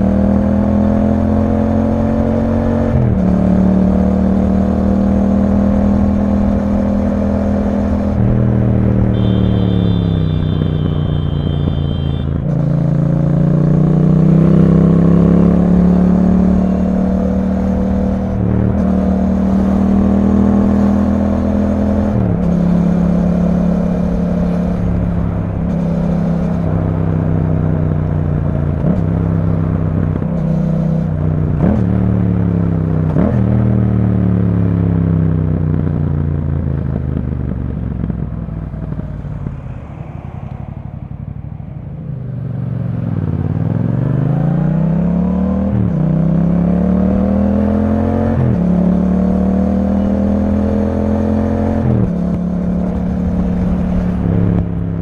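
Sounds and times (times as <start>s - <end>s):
engine rev blips: 0.0s - 35.0s, 36.8s - 54.8s
motorcycle engine revving: 0.0s - 55.0s.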